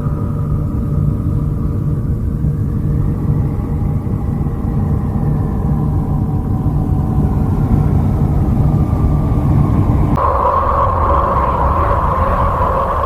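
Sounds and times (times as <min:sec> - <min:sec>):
faint held tones: 0:00.0 - 0:11.1
higher steady hum: 0:00.0 - 0:13.0
low rumbling drone: 0:00.0 - 0:13.0.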